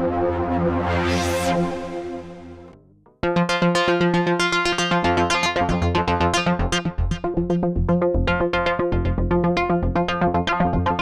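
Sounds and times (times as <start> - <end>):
deep synth bass: 0.0 - 11.0
synthesizer sequenced pattern: 1.5 - 11.0.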